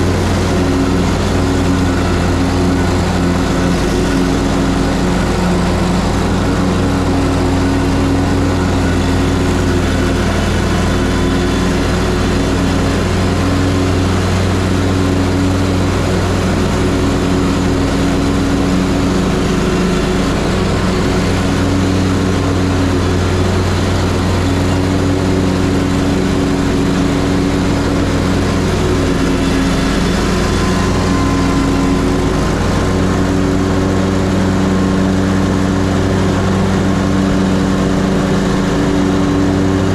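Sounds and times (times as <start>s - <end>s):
lawn mower engine running: 0.0s - 39.9s
mower deck cutting grass: 0.0s - 39.9s.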